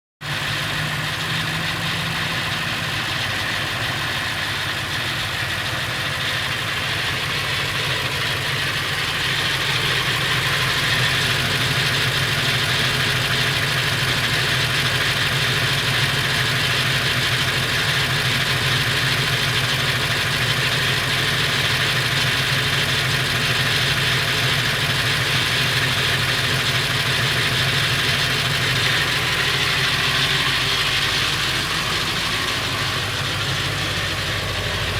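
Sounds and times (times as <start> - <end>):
diesel engine idling with rattle: 0.2 - 34.9.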